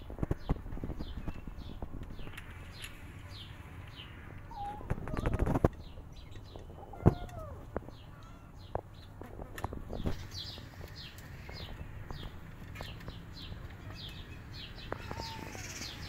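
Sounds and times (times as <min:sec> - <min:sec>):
bird chirping: 0:00.1 - 0:09.3, 0:09.9 - 0:16.0.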